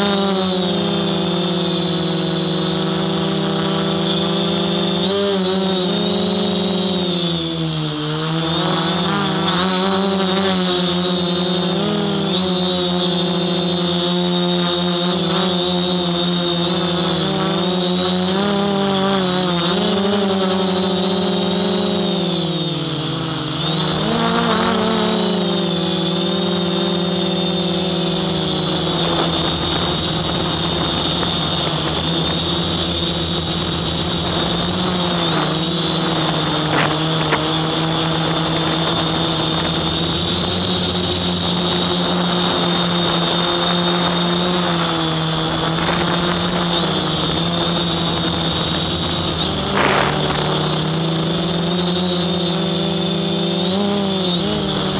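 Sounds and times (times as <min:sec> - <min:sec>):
drone motors buzzing with high whine: 0:00.0 - 0:54.9.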